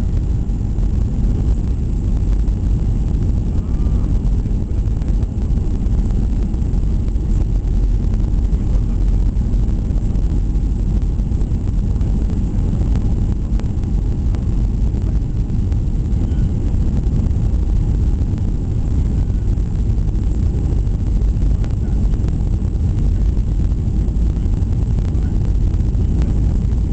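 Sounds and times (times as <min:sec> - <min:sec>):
airplane engines rumbling in cabin: 0:00.0 - 0:26.9.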